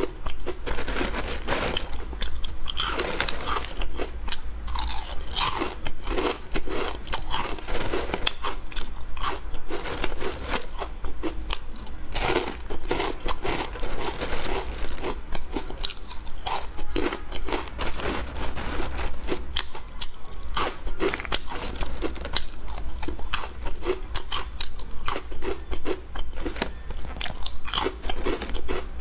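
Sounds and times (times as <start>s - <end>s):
crunching and chewing snacks: 0.0s - 29.0s.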